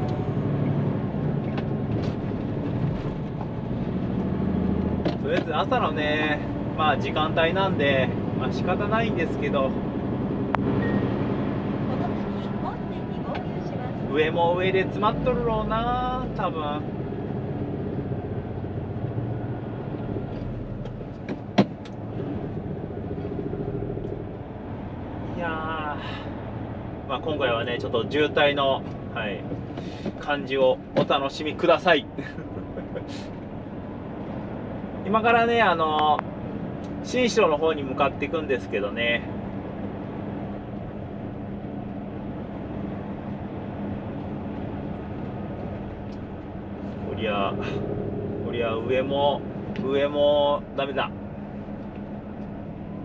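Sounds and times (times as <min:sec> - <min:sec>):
truck engine and road noise: 0:00.0 - 0:53.0.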